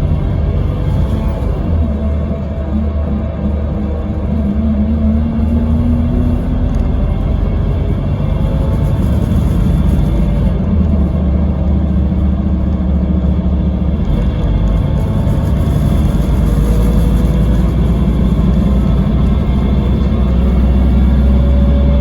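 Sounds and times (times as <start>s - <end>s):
diesel bus engine drone: 0.0s - 22.0s.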